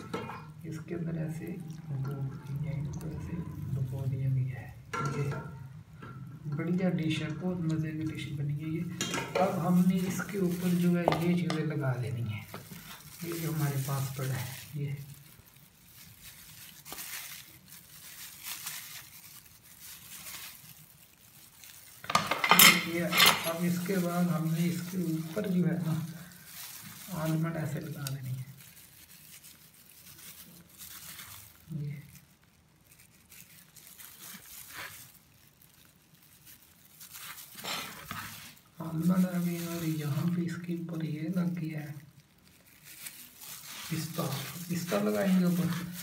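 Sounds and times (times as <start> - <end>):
plastic gloves rustling: 0.0 - 46.0.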